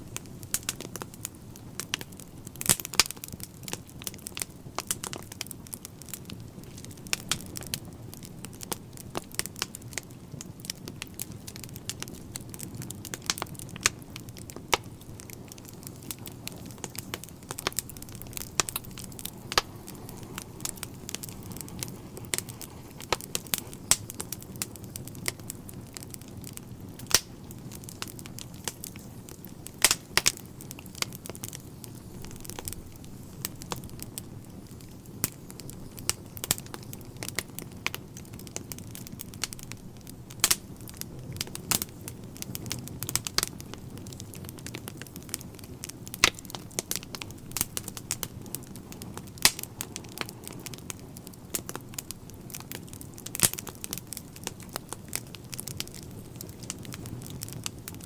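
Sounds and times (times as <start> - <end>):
low rush of flames: 0.0 - 58.0
wood fire crackling and popping: 0.0 - 58.0.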